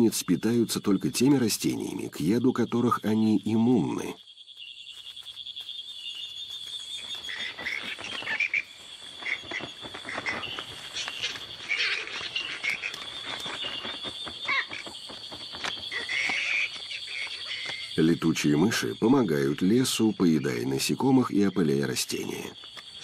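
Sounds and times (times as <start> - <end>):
frogs calling: 0.0 - 23.0
high pulsing insect trill: 0.0 - 23.0.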